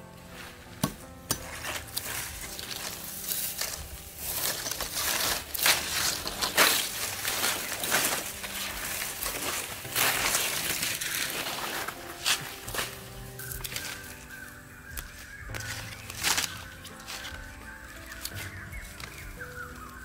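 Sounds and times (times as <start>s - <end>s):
dry grass rustling and crackling: 0.0s - 20.0s.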